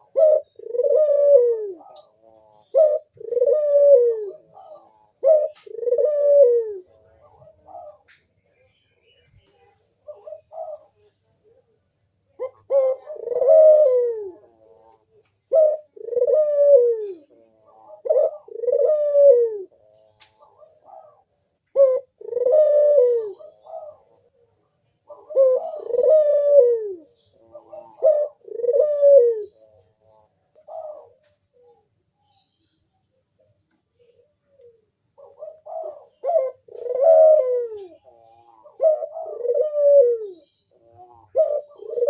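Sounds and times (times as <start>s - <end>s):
dove cooing: 0.0s - 32.5s, 33.2s - 42.0s.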